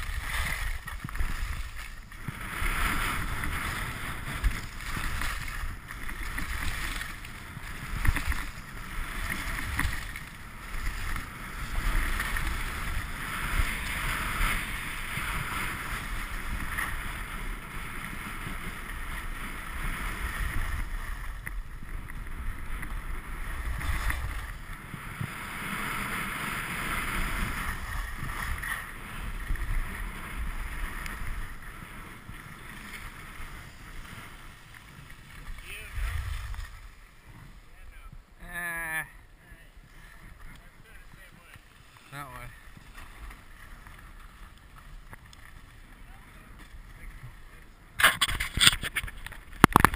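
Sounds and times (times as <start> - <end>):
wind on microphone: 0.0 - 41.8, 46.1 - 49.9
skis scraping over snow: 0.0 - 49.9.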